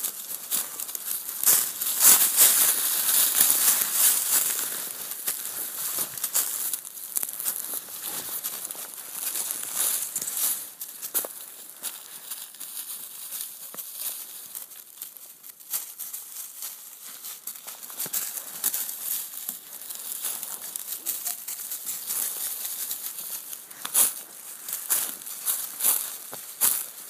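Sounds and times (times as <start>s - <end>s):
footsteps crunching dry leaves: 0.0s - 27.0s.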